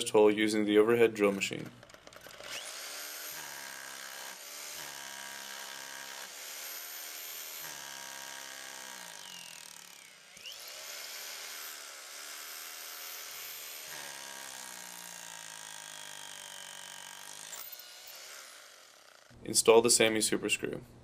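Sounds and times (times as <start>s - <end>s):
electric drill drilling into concrete: 1.8s - 19.4s.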